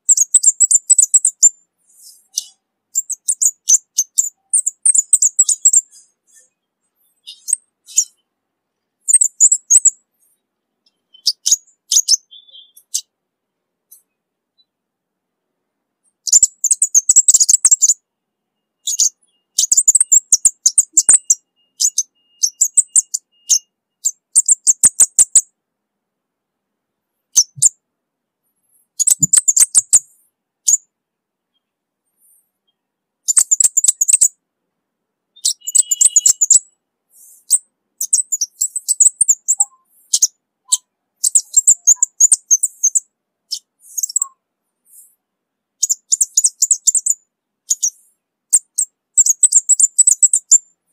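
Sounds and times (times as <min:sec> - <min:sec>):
bird singing high ticking notes: 0:00.0 - 0:08.3, 0:09.0 - 0:13.2, 0:16.1 - 0:25.5, 0:27.2 - 0:27.8, 0:28.9 - 0:30.9, 0:32.6 - 0:34.4, 0:35.3 - 0:45.2, 0:45.8 - 0:50.8.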